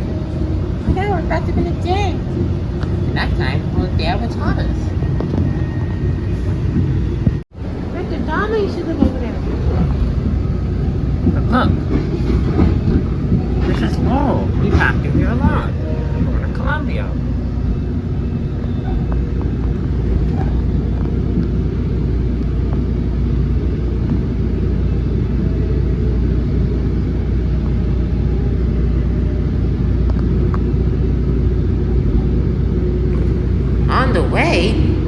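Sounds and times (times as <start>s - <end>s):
train ride low rumble: 0.0s - 35.0s.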